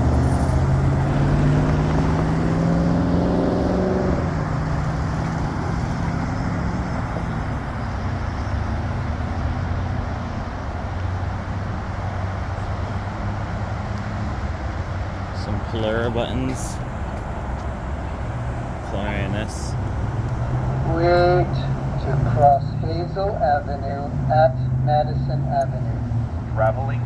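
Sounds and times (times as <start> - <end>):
low traffic hum: 0.0 - 27.0
vehicle engine accelerating: 0.0 - 27.0.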